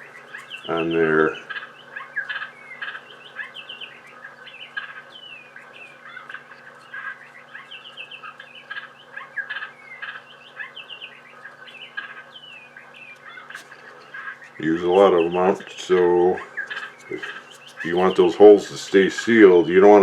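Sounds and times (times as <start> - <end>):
faint low hum: 0.0 - 20.0
songbirds chirping: 0.0 - 20.0.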